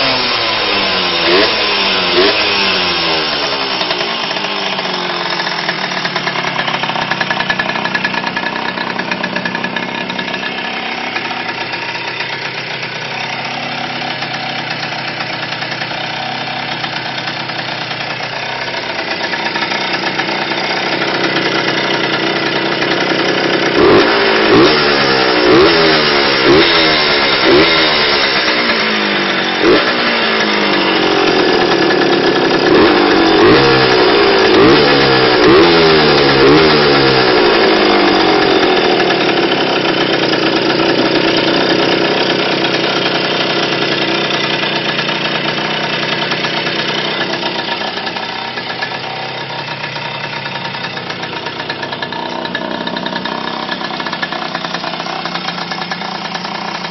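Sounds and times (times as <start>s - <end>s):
two-stroke engine idling and revving: 0.0s - 56.9s.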